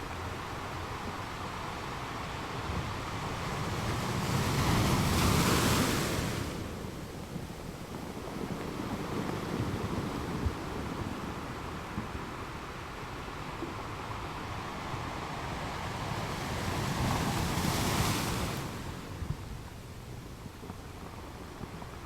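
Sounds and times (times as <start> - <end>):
ocean waves breaking: 0.0 - 19.6.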